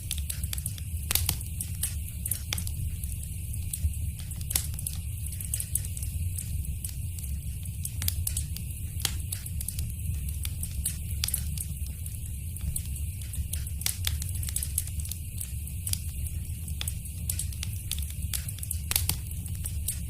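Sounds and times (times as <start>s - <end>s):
fireplace fire crackling: 0.0s - 20.0s.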